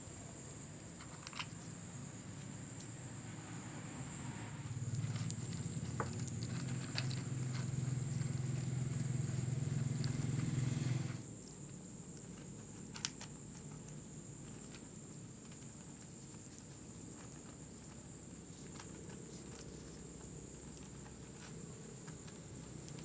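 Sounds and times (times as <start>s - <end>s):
kitten crunching dry kibble: 0.2s - 3.1s, 4.7s - 23.0s.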